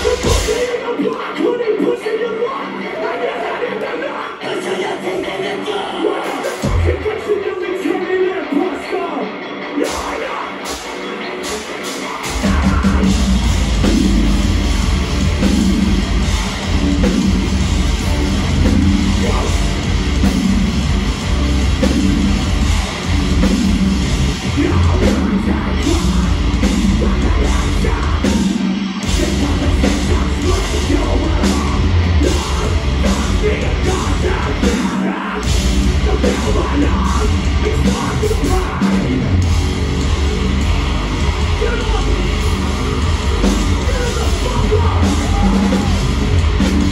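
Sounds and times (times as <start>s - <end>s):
metalcore band playing live: 0.0s - 46.9s
yelled vocals: 0.0s - 46.9s.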